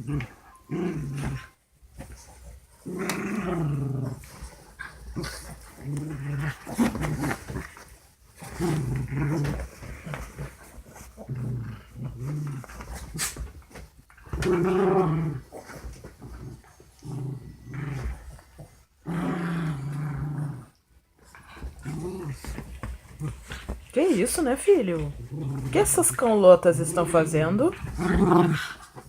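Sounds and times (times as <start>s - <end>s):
dogs growling: 0.0s - 29.0s.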